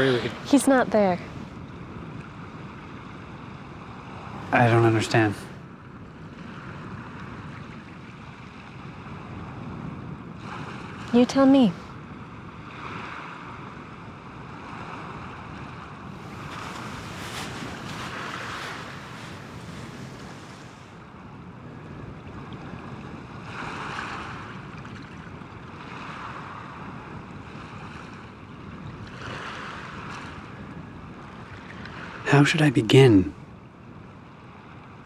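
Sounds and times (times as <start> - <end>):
wind on microphone: 0.0 - 4.6, 5.4 - 32.2
surf washing ashore: 0.0 - 33.4.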